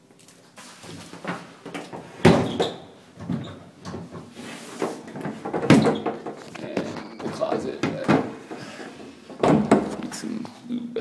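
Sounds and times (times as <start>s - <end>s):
closet doors opening and shutting: 0.6s - 10.4s
knocks and thuds: 1.2s - 10.1s.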